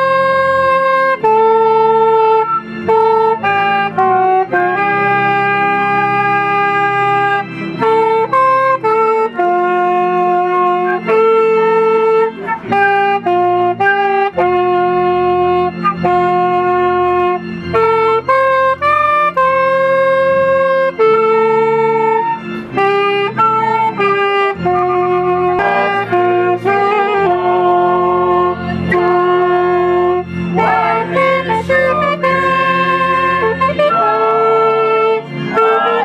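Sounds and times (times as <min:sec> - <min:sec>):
saxophone slow melody: 0:00.0 - 0:36.0
soft low backing music: 0:00.0 - 0:36.0.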